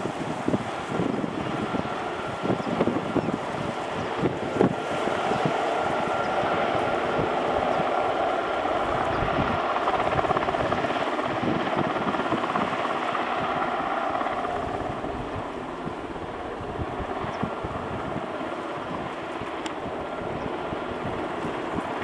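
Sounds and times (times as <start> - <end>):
helicopter hovering with turbine whine: 0.0 - 22.0.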